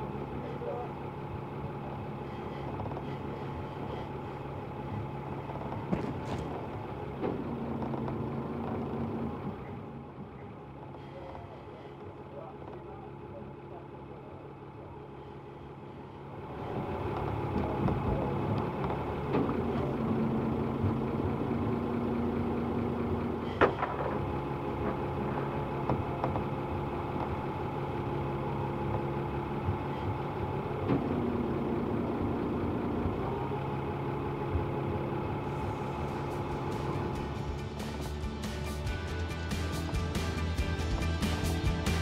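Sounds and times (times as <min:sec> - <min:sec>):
boat engine running: 0:00.0 - 0:42.0.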